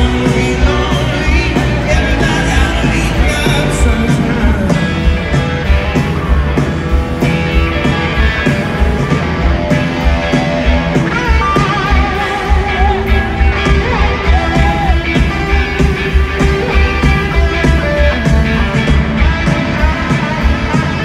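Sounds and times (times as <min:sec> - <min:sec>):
high bending guitar melody: 0:00.0 - 0:21.0
live rock band playing: 0:00.0 - 0:21.0.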